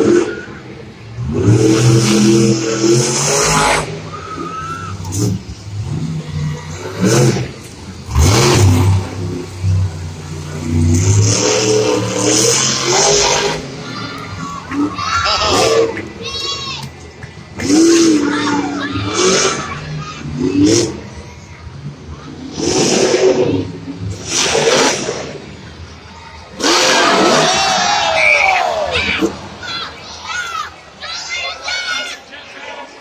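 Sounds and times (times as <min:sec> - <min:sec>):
monster truck engine revving: 0:00.0 - 0:30.9.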